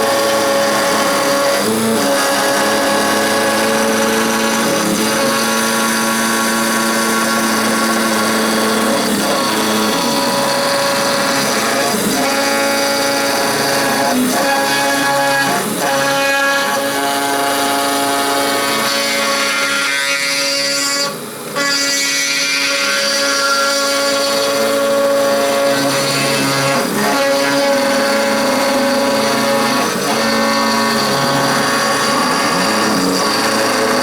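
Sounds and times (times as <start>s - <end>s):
router whine cutting metal: 0.0s - 34.0s.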